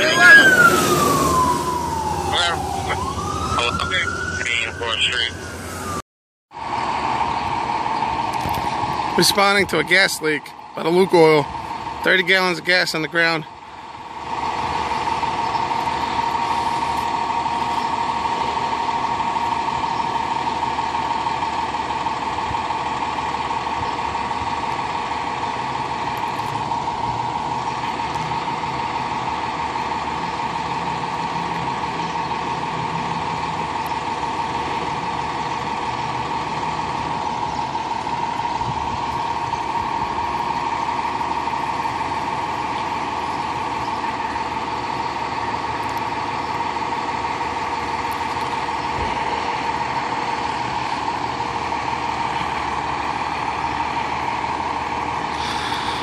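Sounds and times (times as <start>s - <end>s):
fire engine idling: 0.0s - 6.0s, 6.6s - 56.0s.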